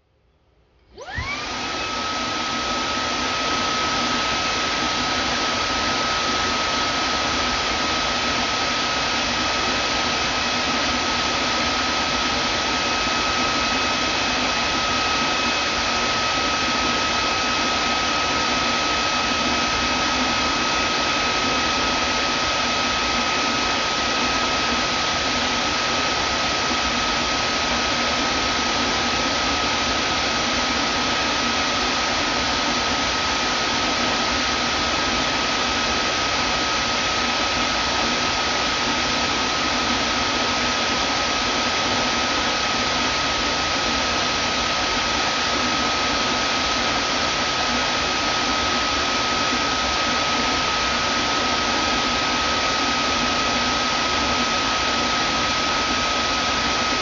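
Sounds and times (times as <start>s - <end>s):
vacuum cleaner running: 0.8s - 57.0s.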